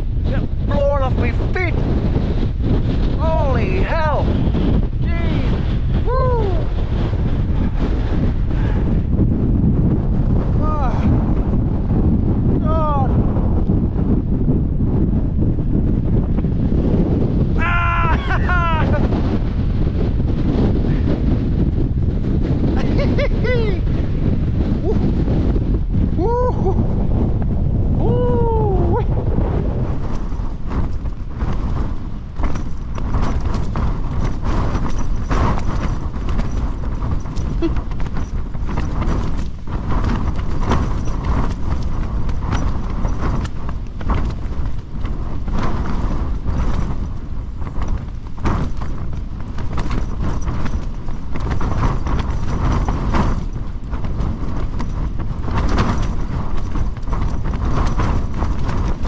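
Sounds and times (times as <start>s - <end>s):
tent fabric flapping: 0.0s - 59.0s
wind rumble on microphone: 0.0s - 59.0s.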